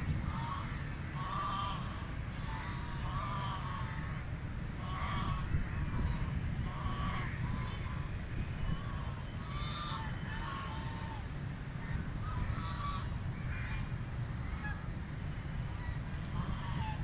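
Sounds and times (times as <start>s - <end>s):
steady low rumble: 0.0s - 14.8s, 15.7s - 17.0s
ducks quacking: 0.1s - 4.2s, 4.8s - 14.8s, 16.3s - 17.0s.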